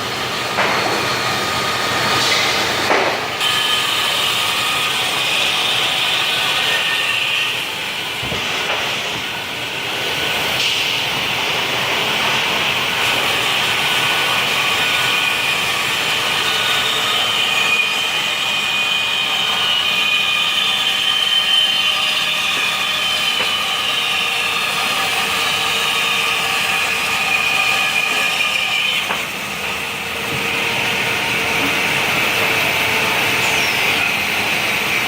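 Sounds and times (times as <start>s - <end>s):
band saw cutting wood: 0.0s - 35.0s.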